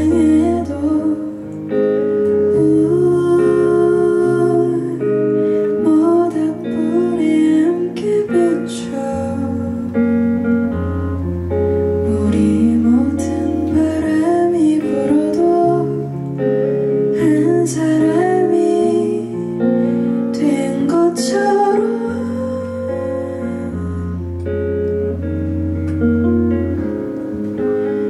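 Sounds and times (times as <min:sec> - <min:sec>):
acoustic guitar: 0:00.0 - 0:28.0.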